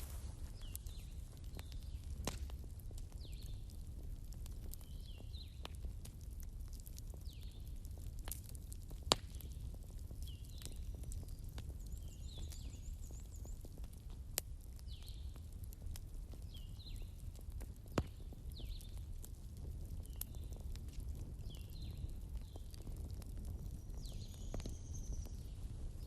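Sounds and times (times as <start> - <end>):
bonfire crackling: 0.0 - 26.0
fire pops: 0.0 - 26.0.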